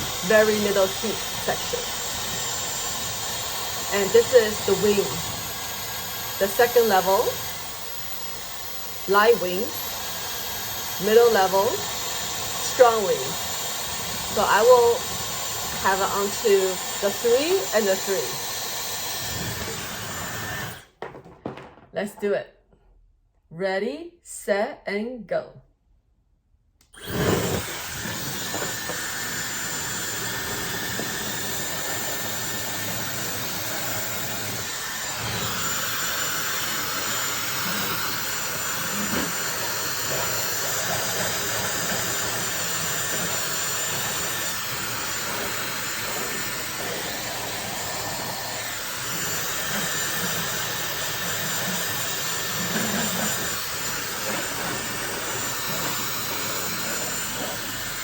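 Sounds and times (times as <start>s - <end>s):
hair dryer blowing: 0.0s - 20.9s, 26.8s - 58.0s.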